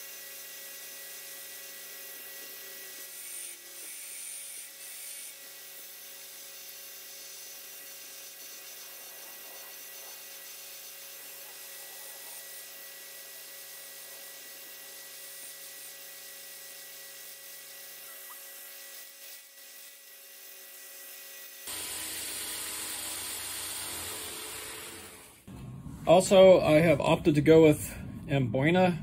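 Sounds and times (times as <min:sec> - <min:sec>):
belt grinder motor whining: 0:00.0 - 0:25.5.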